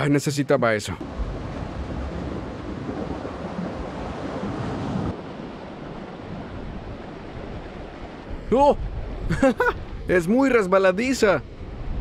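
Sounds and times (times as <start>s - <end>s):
ocean surf washing ashore: 0.8s - 12.0s
wind buffeting microphone: 1.0s - 12.0s.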